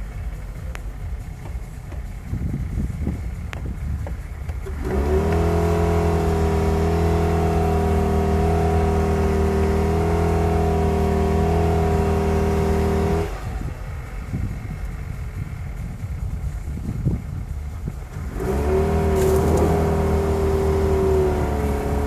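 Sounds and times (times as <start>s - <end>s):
car engine revving high: 0.0s - 22.0s
wheels spinning in snow: 0.0s - 22.0s.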